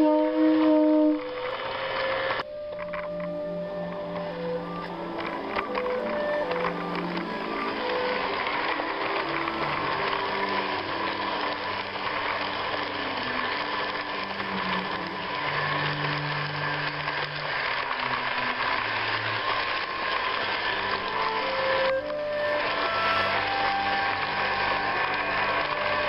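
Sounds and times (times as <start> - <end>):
toy train motor whir: 0.0 - 26.0
wheel and track noise: 0.0 - 26.0.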